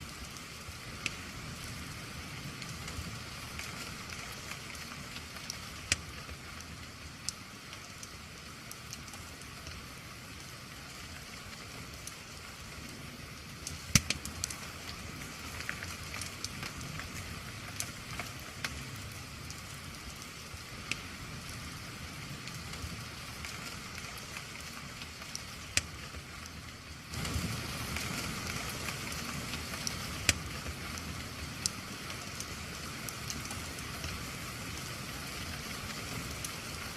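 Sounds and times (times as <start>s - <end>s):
rain hiss: 0.0s - 36.9s
wood fire crackling and popping: 0.0s - 36.9s.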